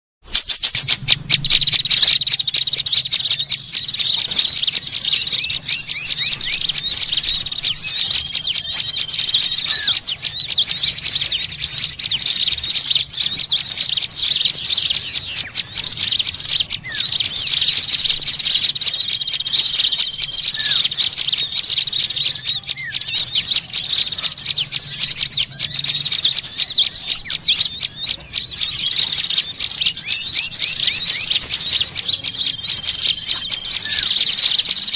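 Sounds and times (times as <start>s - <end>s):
songbirds chirping and chattering: 0.2s - 34.9s.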